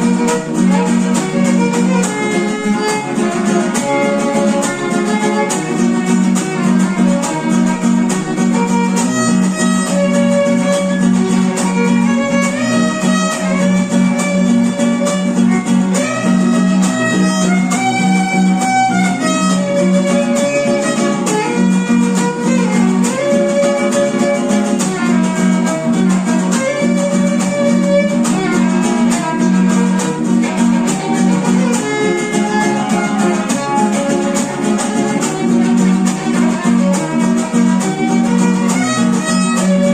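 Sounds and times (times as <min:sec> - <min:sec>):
strummed strings: 0:00.0 - 0:39.9.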